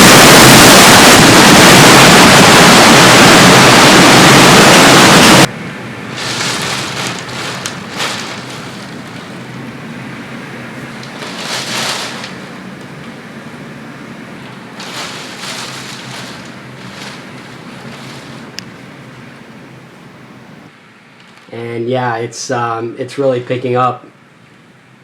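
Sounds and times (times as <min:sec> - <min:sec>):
heavy rain: 0:00.0 - 0:20.7
hurricane winds: 0:00.0 - 0:20.7.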